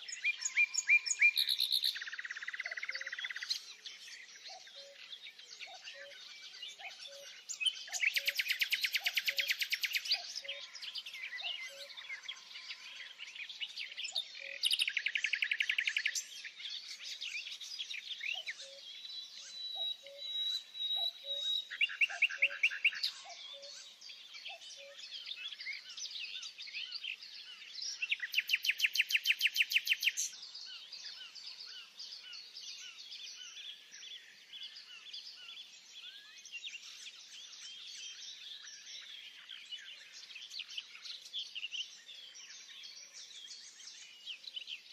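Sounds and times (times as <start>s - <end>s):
birds chirping in chorus: 0.0s - 44.9s.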